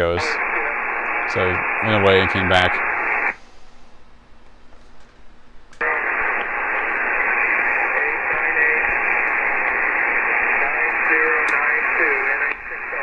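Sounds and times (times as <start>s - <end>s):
radio receiver hiss: 0.0s - 3.5s, 5.8s - 13.0s.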